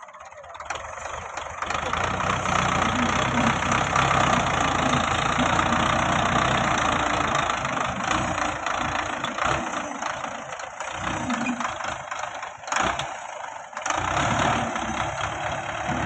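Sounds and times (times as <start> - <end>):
tractor diesel engine clattering: 0.0 - 16.0.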